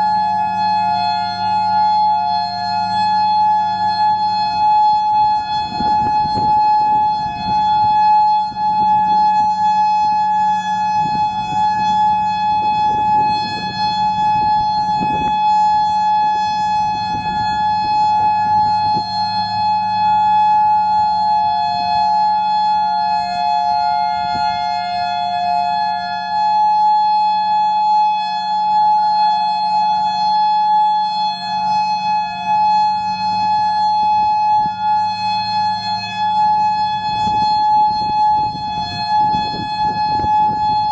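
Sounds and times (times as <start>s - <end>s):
lower wavering siren: 0.0s - 40.9s
storm siren steady alert tone: 0.0s - 40.9s.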